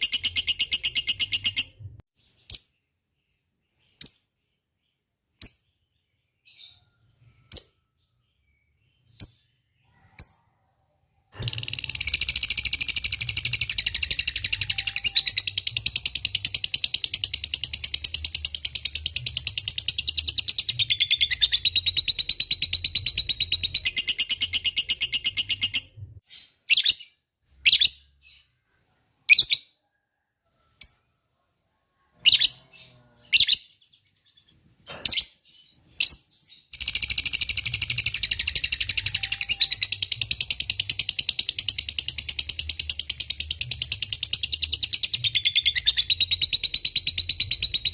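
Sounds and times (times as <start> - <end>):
bird chirps: 0.0 - 30.0, 32.0 - 47.9.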